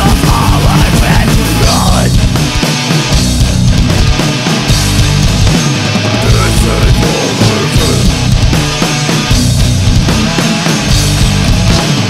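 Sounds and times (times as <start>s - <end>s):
metalcore song distorted guitars: 0.0s - 12.0s.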